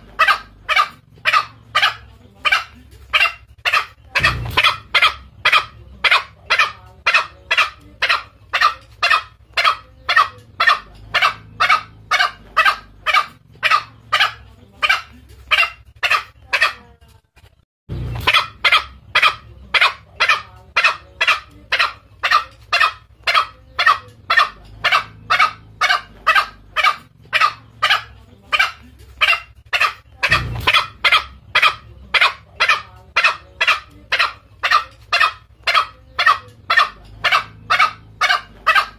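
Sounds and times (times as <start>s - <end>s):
junglefowl calling: 0.0s - 16.9s, 18.1s - 38.9s.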